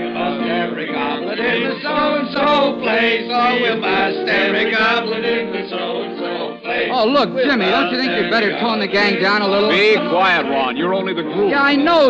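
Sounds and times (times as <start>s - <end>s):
men singing in chorus: 0.0s - 10.7s.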